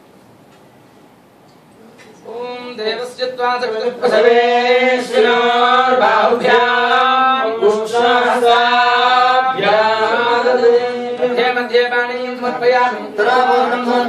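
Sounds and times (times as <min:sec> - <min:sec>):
mantra chanting: 0:02.2 - 0:14.0.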